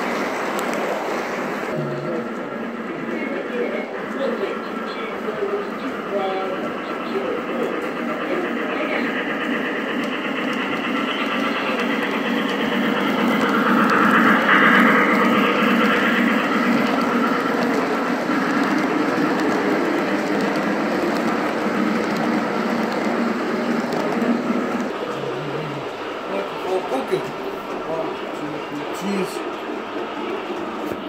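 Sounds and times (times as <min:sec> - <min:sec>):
model train wheels rumbling: 0:00.0 - 0:31.0.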